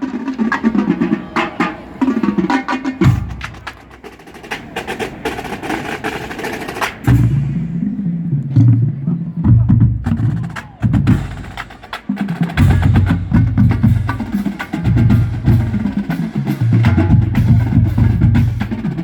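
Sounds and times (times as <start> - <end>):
marching band brass: 0.0 - 19.0.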